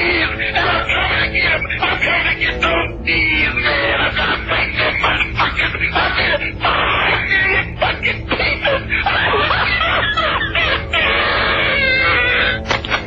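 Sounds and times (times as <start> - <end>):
muffled voices over telephone: 0.0 - 11.1.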